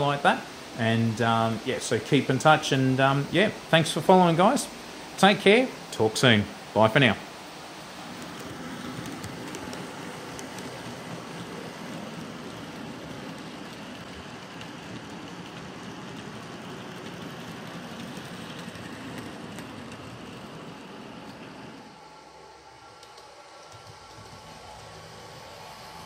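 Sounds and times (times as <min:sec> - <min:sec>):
model train wheels rumbling: 0:00.0 - 0:26.0.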